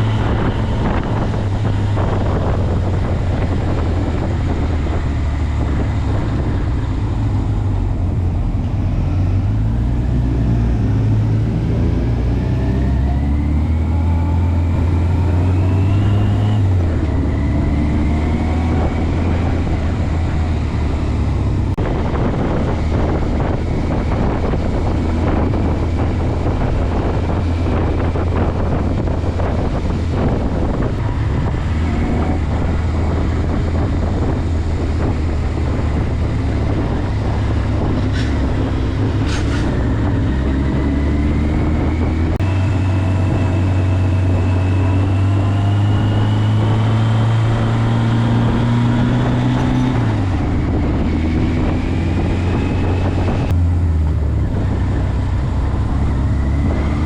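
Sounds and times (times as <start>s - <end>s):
motorcycle engine accelerating: 0.0s - 57.0s
wind buffeting microphone: 0.0s - 57.0s.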